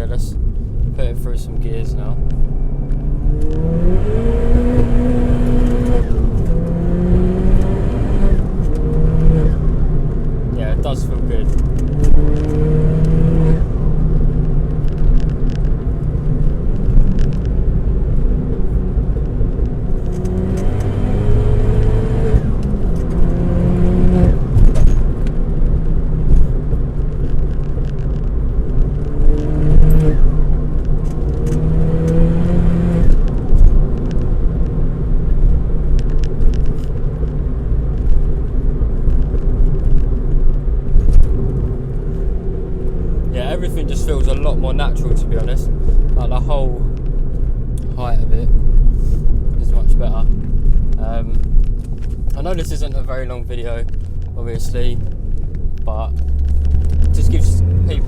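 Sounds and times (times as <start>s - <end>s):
car engine accelerating: 0.0s - 58.0s
road noise rumble: 0.0s - 58.0s.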